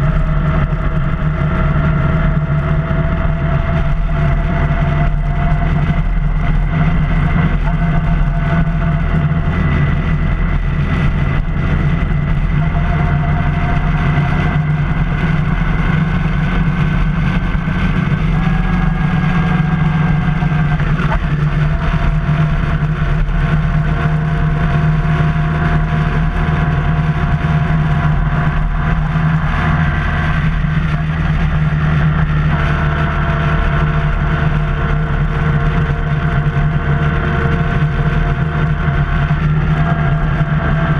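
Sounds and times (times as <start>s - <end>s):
motorcycle engine cruising: 0.0s - 40.9s
road noise: 0.0s - 40.9s.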